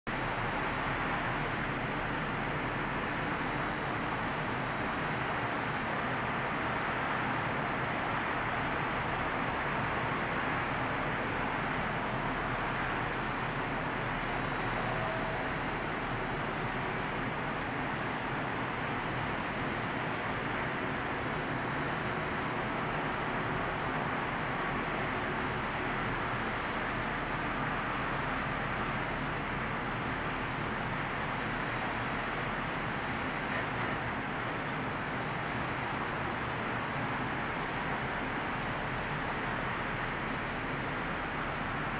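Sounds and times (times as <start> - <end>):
distant city traffic hum: 0.1 - 41.9.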